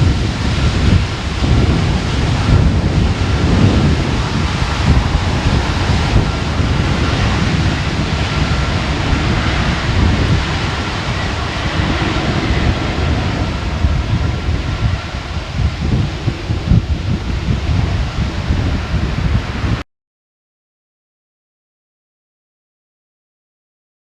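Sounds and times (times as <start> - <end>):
faint steady whine: 0.0 - 19.6
jet engine roar: 0.0 - 19.8
wind buffeting microphone: 0.0 - 19.8.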